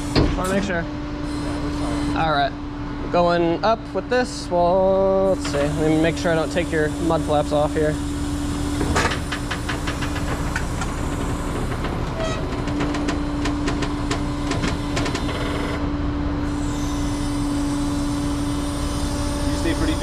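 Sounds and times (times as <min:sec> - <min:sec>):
truck engine and hydraulic pump: 0:00.0 - 0:02.6, 0:05.2 - 0:20.0.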